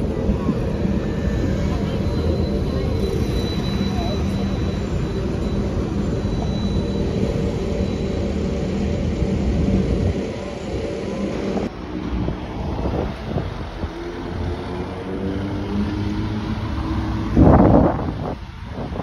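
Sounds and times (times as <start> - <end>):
bus engine drone: 0.0 - 19.0
bus passing: 0.0 - 19.0
traffic noise: 0.0 - 19.0.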